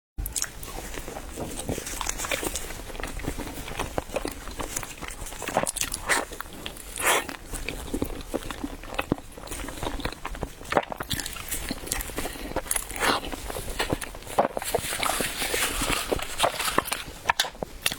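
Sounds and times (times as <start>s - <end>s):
person chewing bread: 0.2s - 17.9s.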